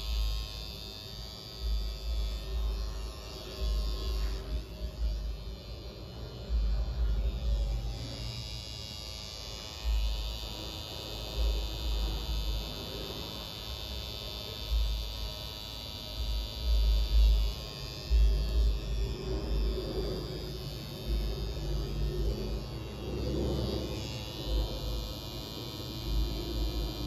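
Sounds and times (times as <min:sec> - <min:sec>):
tattoo machine buzzing: 0:00.0 - 0:27.0.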